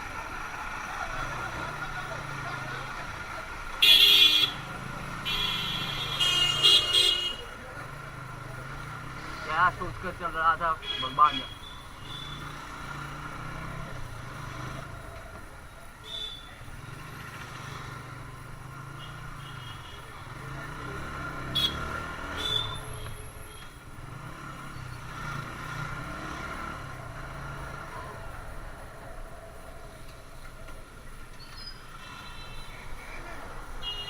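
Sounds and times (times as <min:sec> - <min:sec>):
road and wind noise: 0:00.0 - 0:34.0.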